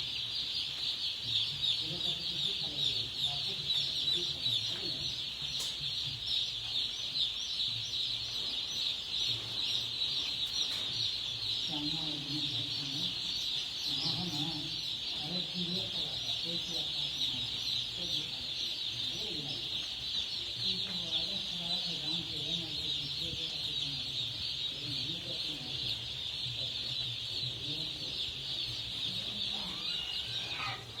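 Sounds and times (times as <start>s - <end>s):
chickens calling: 0.0s - 31.0s.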